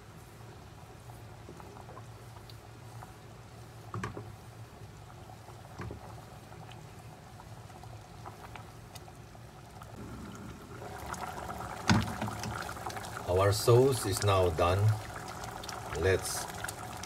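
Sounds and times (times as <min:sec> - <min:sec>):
sauce bubbling in a saucepan: 0:00.0 - 0:17.0.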